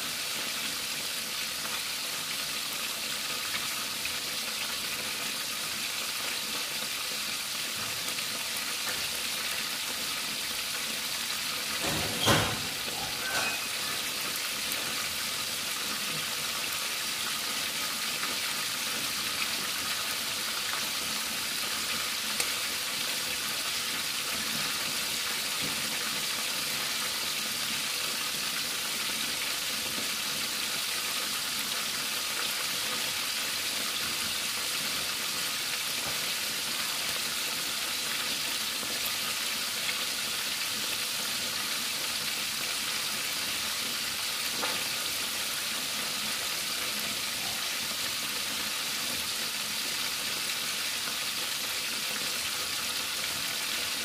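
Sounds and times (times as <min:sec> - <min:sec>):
fish deep-frying in hot oil: 0:00.0 - 0:54.0.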